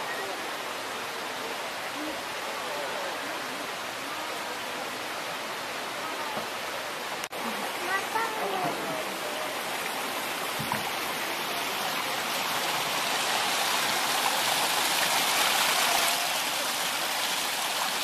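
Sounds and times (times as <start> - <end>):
spring water rushing: 0.0 - 18.0.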